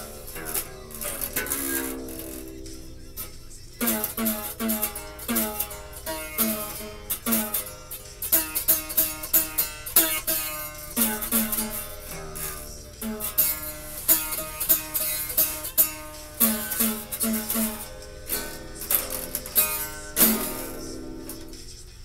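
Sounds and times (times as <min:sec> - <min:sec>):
guitar picking a melody: 0:00.0 - 0:22.0.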